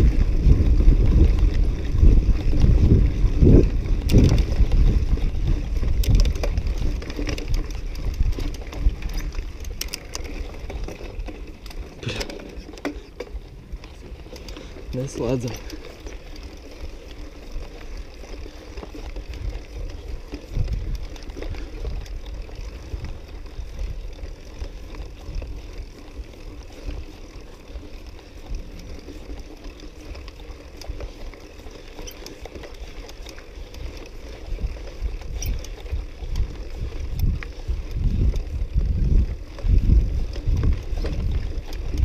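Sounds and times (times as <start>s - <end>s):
bike rattles and clicks: 0.0s - 42.0s
bike tyre noise on dirt: 0.0s - 42.0s
wind rumbling on microphone: 0.0s - 42.0s.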